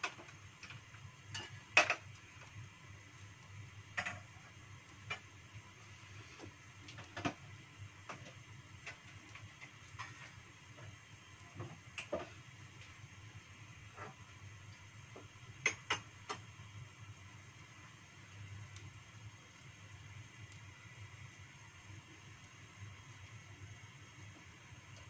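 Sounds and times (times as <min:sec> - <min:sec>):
low steady hum: 0:00.0 - 0:25.0
oil ticking in a pan: 0:00.0 - 0:25.0.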